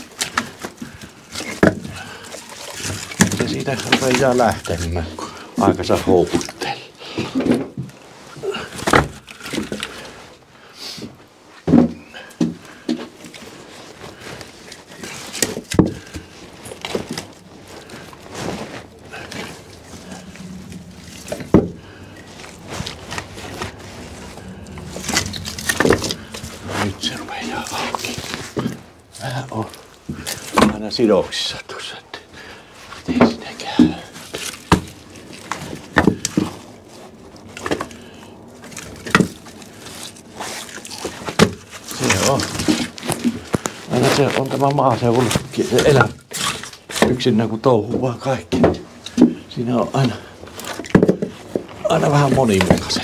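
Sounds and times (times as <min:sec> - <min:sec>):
firewood pieces knocking together: 0:00.0 - 0:10.2, 0:11.6 - 0:31.1, 0:33.0 - 0:49.4, 0:50.0 - 0:53.0.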